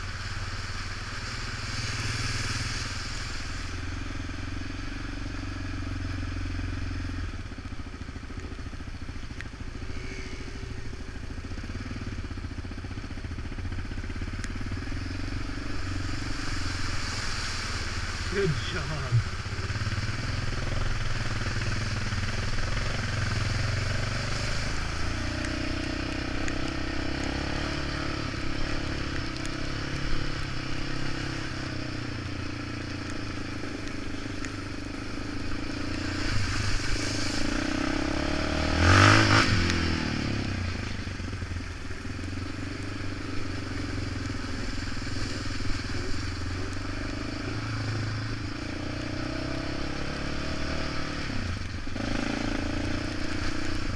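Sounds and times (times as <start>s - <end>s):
off-road vehicle engine: 0.0s - 53.9s.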